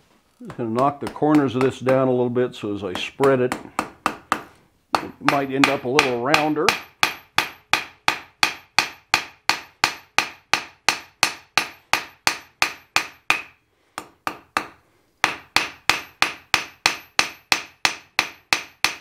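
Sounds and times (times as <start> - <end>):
hammer striking steel on anvil: 3.0 - 19.0.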